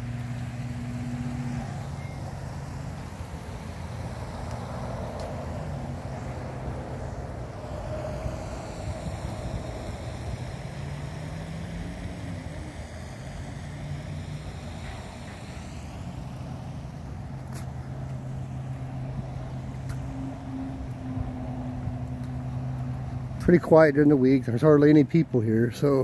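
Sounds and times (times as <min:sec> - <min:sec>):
low mechanical hum: 0:00.0 - 0:26.0
soft outdoor rush: 0:00.0 - 0:26.0.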